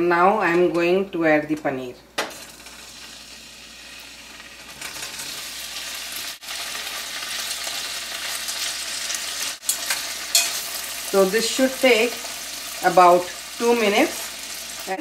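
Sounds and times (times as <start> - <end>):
cheese cubes sizzling in oil: 2.3 - 15.0.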